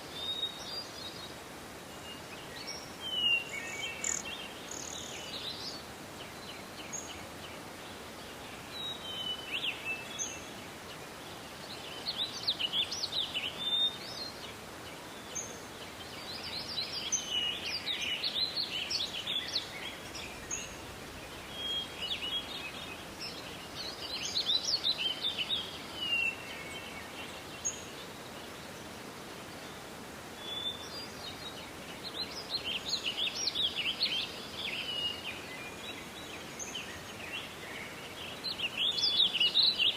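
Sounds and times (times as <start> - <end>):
songbirds chirping and trilling: 0.0 - 39.9
steady background hiss: 0.0 - 39.9.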